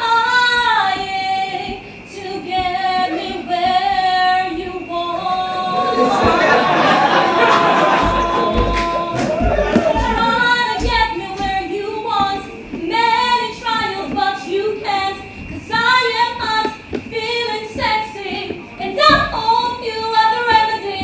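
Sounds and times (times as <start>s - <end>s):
woman singing into a microphone: 0.0s - 21.0s.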